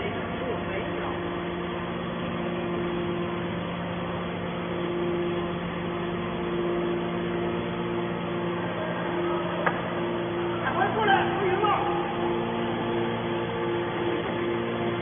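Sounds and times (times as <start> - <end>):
higher mechanical tone: 0.0 - 15.0
scrap metal baler humming: 0.0 - 15.0.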